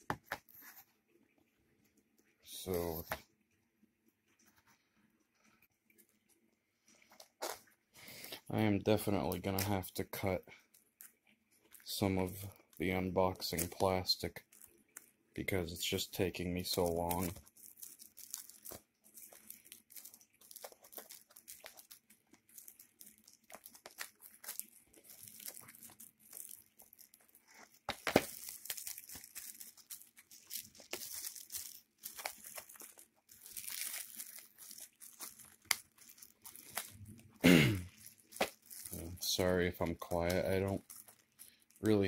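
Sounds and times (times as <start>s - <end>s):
plastic wrap crinkling and tearing: 6.9s - 42.0s.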